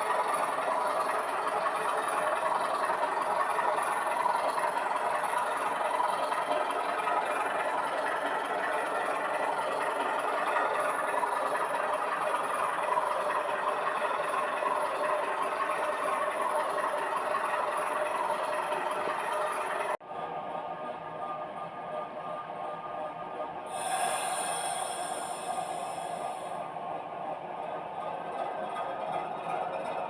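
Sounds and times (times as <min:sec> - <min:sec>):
model train rattling on track: 0:00.0 - 0:20.0, 0:23.7 - 0:30.0.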